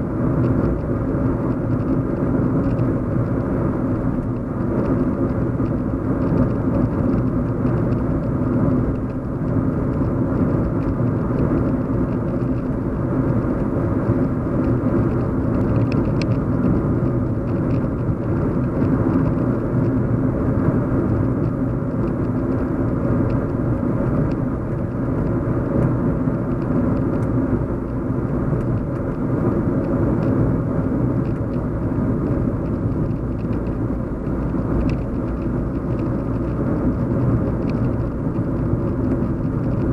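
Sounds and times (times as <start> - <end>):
road and engine hum in car: 0.0 - 39.9.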